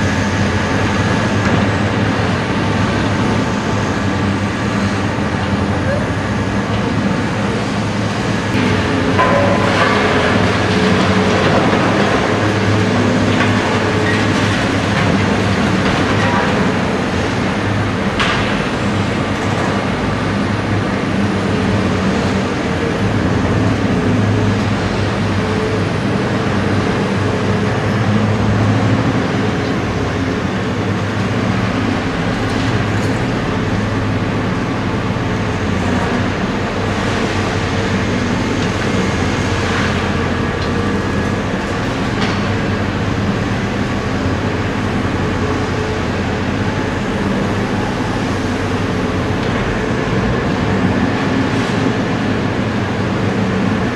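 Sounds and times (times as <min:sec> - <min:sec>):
excavator diesel engine under load: 0:00.0 - 0:53.9.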